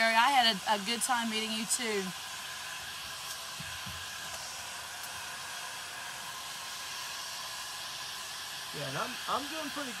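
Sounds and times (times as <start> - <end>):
heat gun blowing air: 0.0 - 10.0.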